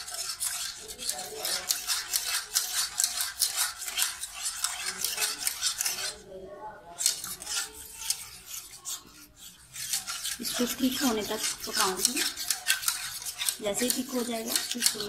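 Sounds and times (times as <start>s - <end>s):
whisk scraping and clicking in a pan: 0.0s - 15.0s.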